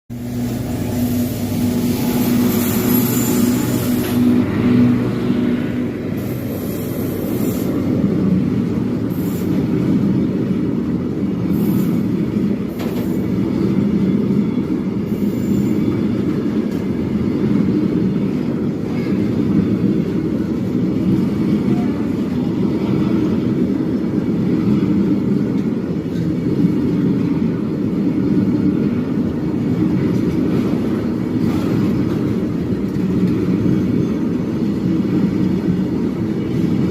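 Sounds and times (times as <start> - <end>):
freight train wheels rumbling on track: 0.1 - 36.9.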